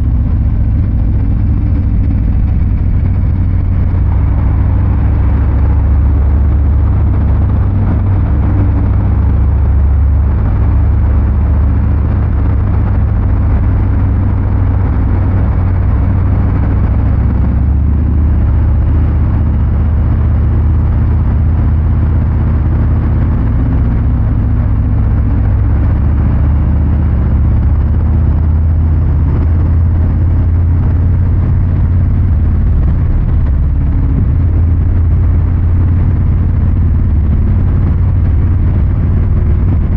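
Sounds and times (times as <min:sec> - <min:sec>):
motorcycle exhaust rumble: 0:00.0 - 0:39.9.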